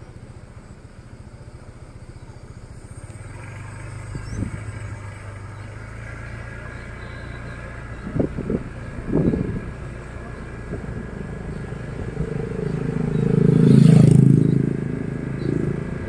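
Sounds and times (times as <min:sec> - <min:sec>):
motorbike engine running: 0:00.0 - 0:16.0.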